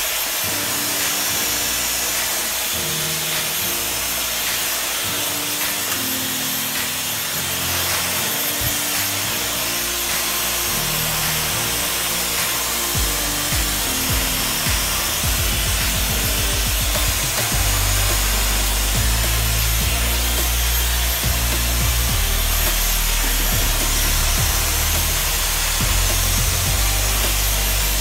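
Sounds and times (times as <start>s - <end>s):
background music: 0.0s - 28.0s
hair dryer blowing: 0.0s - 28.0s.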